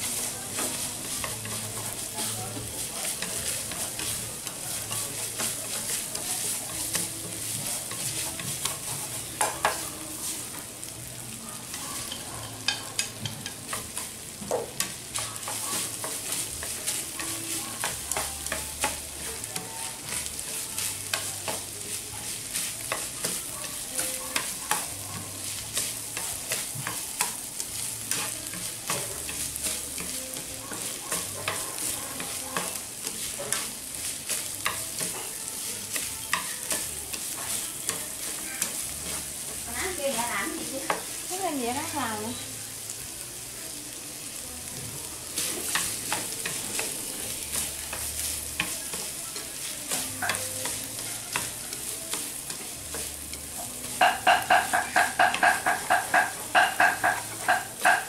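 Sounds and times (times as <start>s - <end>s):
chopsticks tapping and scraping pan: 0.0s - 10.9s, 11.6s - 42.4s, 45.2s - 58.0s
meat sizzling in a frying pan: 0.0s - 58.0s.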